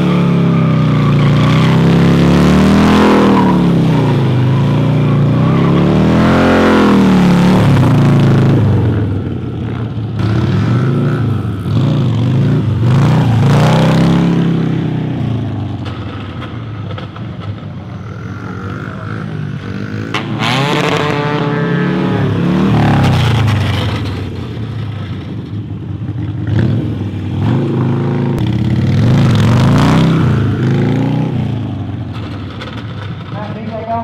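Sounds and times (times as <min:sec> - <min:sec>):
motorcycle engine revving hard: 0:00.0 - 0:15.7, 0:18.4 - 0:24.4, 0:26.4 - 0:32.1.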